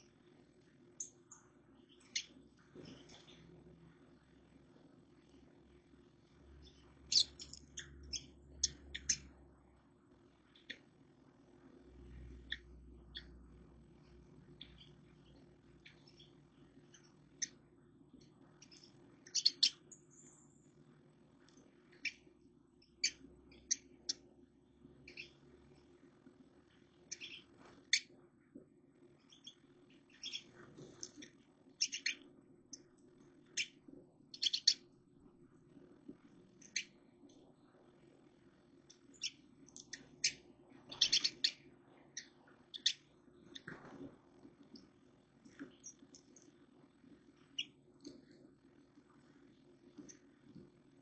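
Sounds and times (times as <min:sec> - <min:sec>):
small birds chirping: 0:00.0 - 0:28.2, 0:29.0 - 0:35.0, 0:36.0 - 0:51.0
faint low hum: 0:00.0 - 0:51.0.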